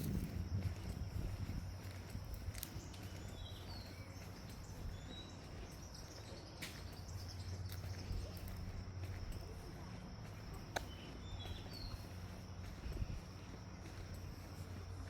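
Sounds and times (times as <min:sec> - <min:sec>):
low outdoor rumble: 0:00.0 - 0:15.0
faint bird chirps: 0:01.8 - 0:15.0.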